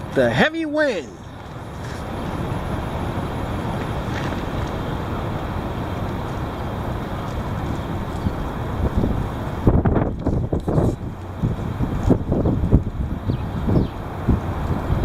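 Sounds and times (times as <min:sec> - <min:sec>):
wind gusting against microphone: 0:00.0 - 0:15.0.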